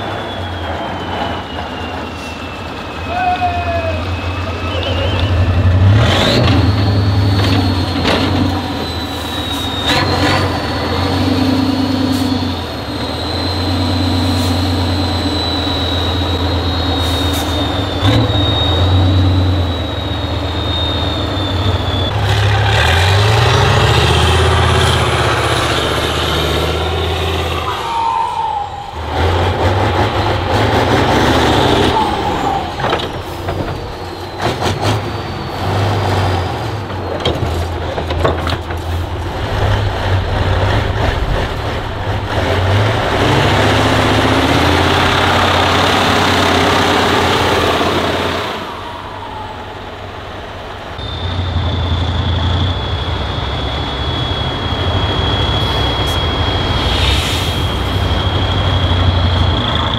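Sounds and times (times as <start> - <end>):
high whine: 0.0 - 35.7, 39.2 - 59.9
truck diesel engine revving: 4.0 - 28.2, 28.8 - 59.9.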